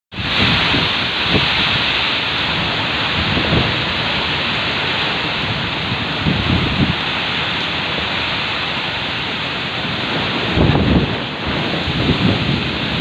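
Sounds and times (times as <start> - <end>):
heavy rain falling: 0.1 - 13.0.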